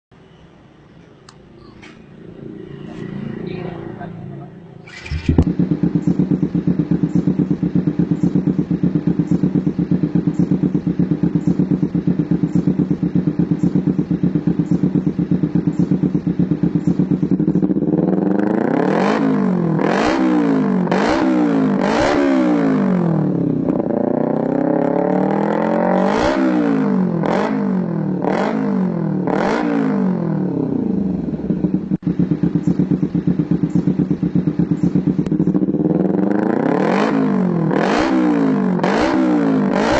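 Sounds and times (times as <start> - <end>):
motorcycle engine revving: 2.0 - 39.9.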